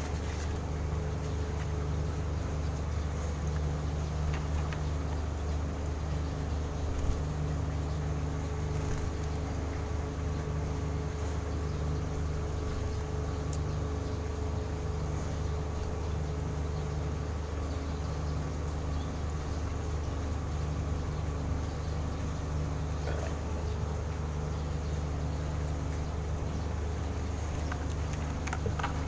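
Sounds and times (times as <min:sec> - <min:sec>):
faint constant whine: 0:00.0 - 0:29.0
low mechanical hum: 0:00.0 - 0:29.0.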